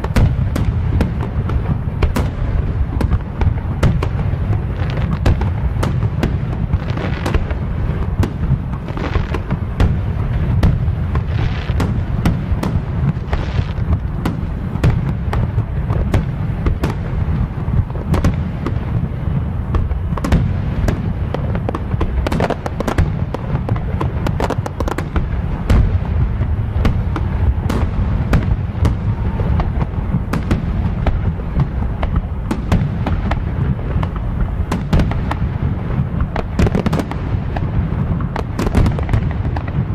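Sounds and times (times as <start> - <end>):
fireworks booming and cracking: 0.0 - 39.9
fireworks hissing: 0.0 - 39.9.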